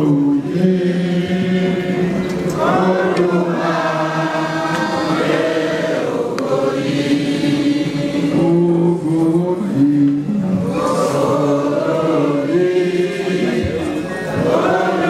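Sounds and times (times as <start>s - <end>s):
group chanting long notes: 0.0s - 15.0s.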